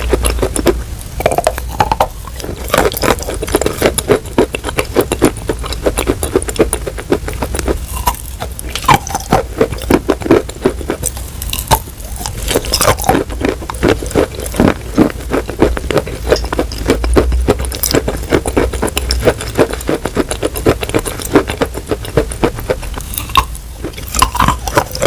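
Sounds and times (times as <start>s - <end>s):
chalk crunching while chewed: 0.0s - 25.0s.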